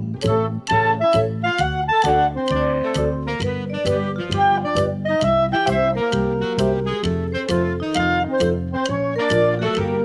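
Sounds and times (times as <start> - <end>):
upbeat music with keyboard melody: 0.0 - 10.0.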